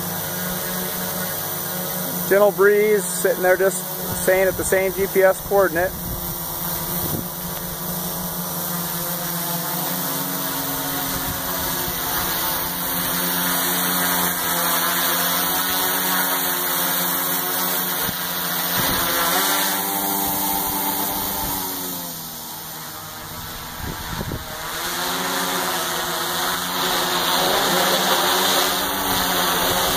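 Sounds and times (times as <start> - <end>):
quadcopter propellers buzzing: 0.0 - 29.9.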